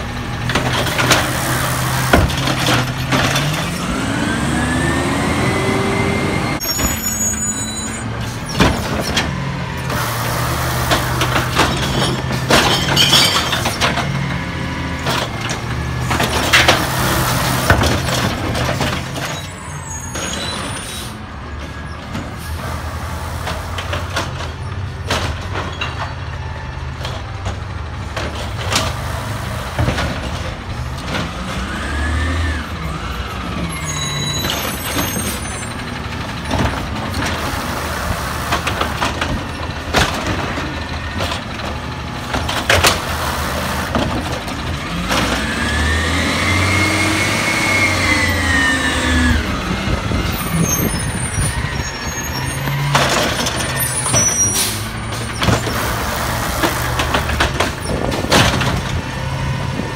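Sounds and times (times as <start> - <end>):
garbage truck engine drone: 0.0 - 59.9.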